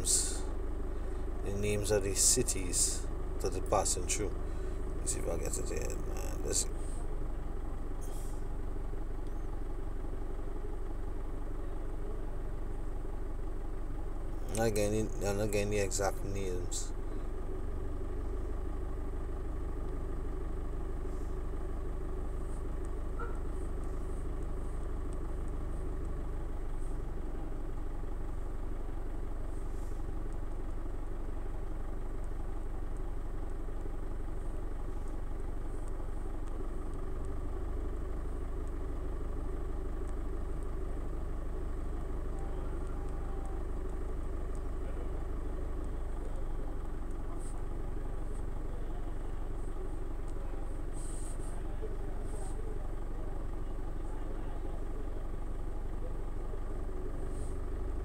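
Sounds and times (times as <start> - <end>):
low engine-like rumble: 0.0 - 58.0.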